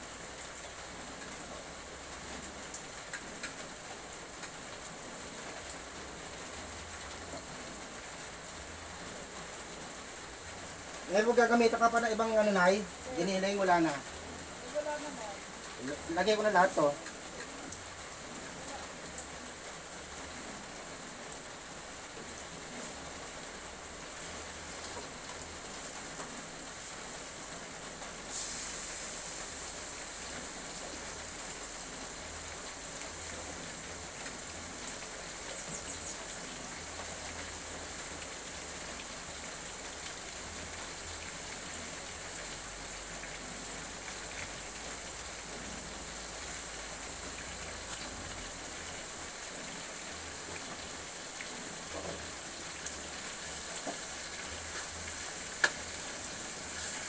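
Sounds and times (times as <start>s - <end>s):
food sizzling in a wok: 0.0s - 57.0s.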